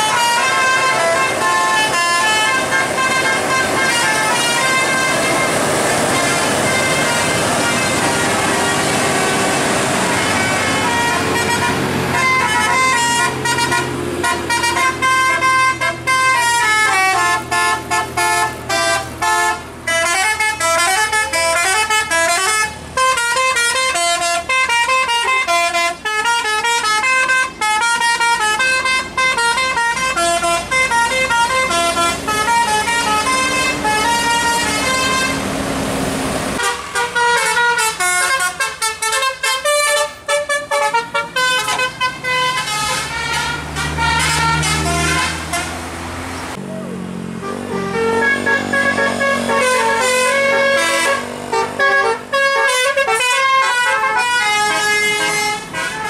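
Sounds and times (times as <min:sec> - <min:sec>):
musical bus horn playing tunes: 0:00.0 - 0:46.6, 0:47.4 - 0:56.0
bus engine humming: 0:00.0 - 0:56.0.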